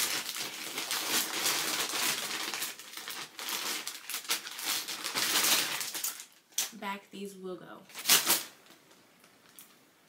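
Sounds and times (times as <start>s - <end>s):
plastic packaging crinkling: 0.0s - 6.8s, 7.9s - 9.8s.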